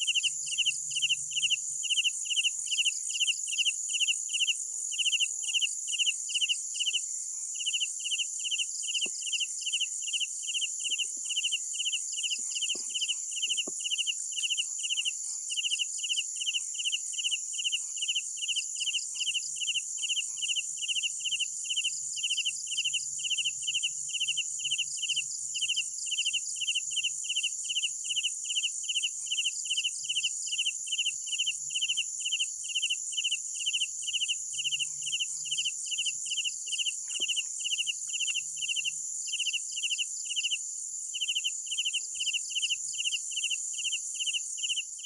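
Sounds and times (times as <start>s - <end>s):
cricket chirping: 0.0s - 45.0s.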